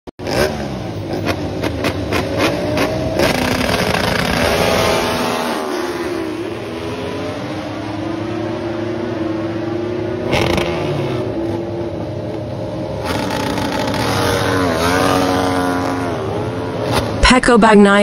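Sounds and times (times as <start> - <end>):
race bike engines revving: 0.2 - 17.4.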